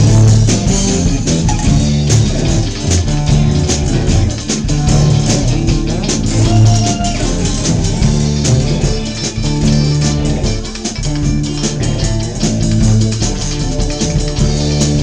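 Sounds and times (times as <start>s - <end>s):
bass line: 0.0s - 15.0s
drums with cymbal strikes: 0.0s - 15.0s
keyboard: 0.0s - 15.0s.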